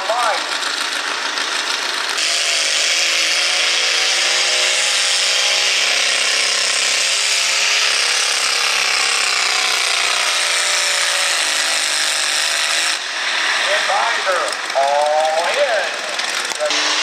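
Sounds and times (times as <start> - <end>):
tractor engine at full throttle: 0.0 - 17.0.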